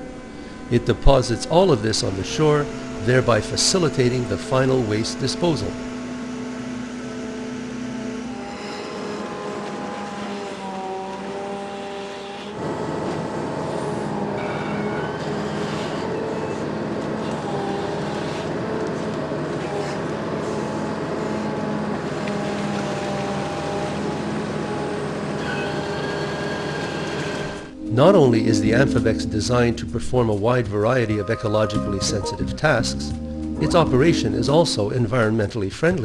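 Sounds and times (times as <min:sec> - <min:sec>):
wavering whining tones: 0:00.0 - 0:11.8, 0:12.5 - 0:33.6
excavator engine running: 0:00.0 - 0:36.0.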